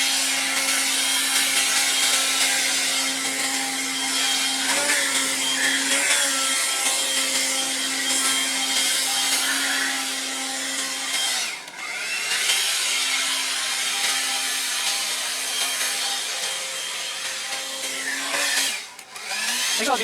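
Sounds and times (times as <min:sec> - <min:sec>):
leaf blower running: 0:00.0 - 0:20.0.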